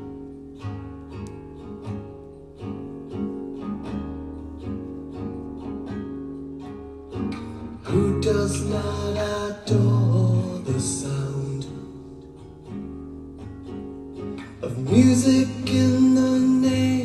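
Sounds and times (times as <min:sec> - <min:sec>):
acoustic guitar through loudspeakers: 0:00.0 - 0:17.0.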